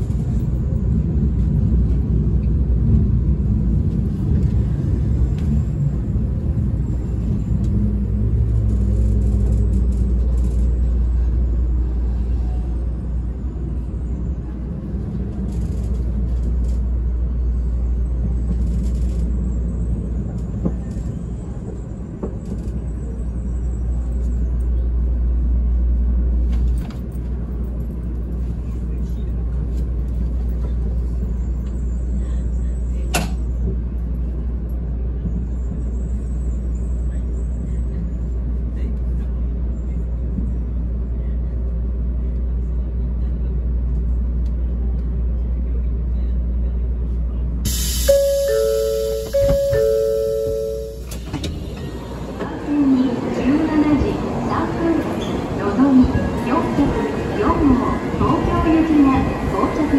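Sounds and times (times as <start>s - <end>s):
train cabin low rumble: 0.0s - 59.9s.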